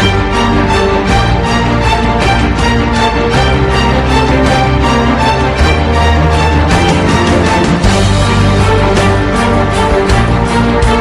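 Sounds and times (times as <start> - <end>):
upbeat music with heavy bass: 0.0 - 11.0.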